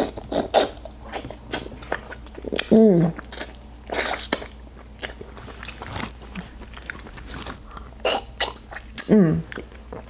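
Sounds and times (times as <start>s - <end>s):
chewing and lip smacking: 0.0s - 10.0s.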